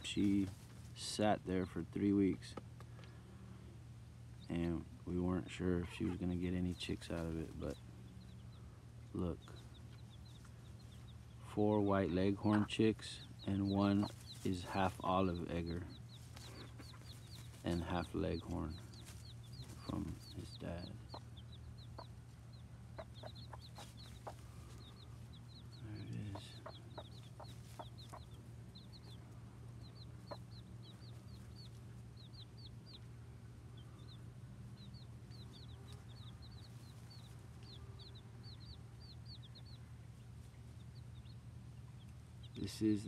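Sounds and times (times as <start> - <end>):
chicks peeping: 0.0 - 43.0
hen clucking: 4.4 - 8.7, 9.4 - 43.0.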